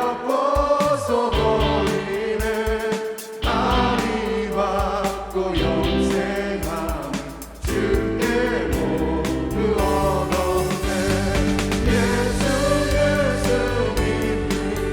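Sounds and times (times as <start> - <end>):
drum beats: 0.0 - 14.9
group singing worship song: 0.0 - 14.9
bass: 0.8 - 2.5, 3.4 - 14.9.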